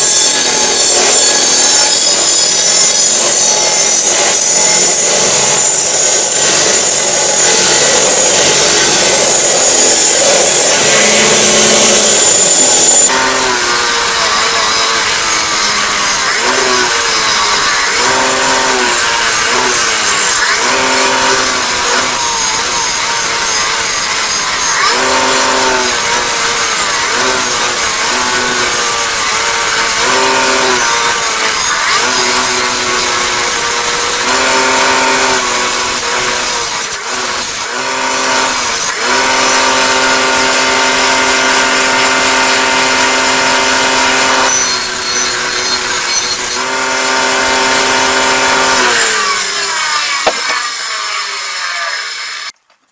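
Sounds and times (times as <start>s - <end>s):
power tool motor hum: 0.0s - 52.6s.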